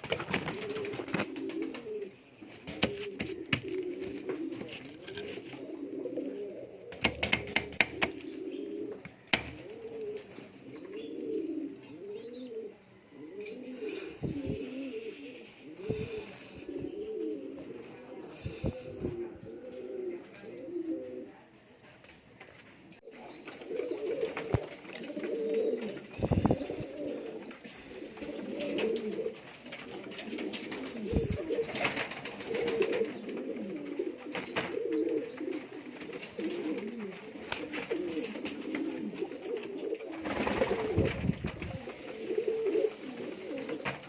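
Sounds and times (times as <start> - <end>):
pigeons cooing: 0.0 - 21.4, 23.0 - 44.0.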